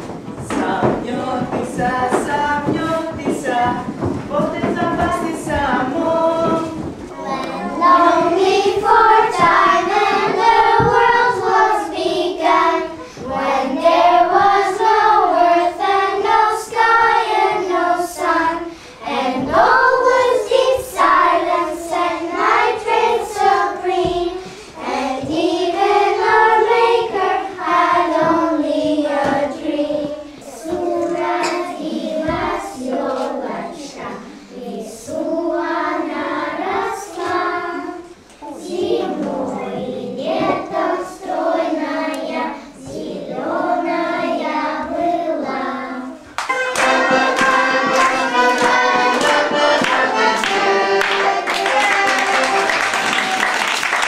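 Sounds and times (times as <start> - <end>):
children singing together: 0.0 - 54.0.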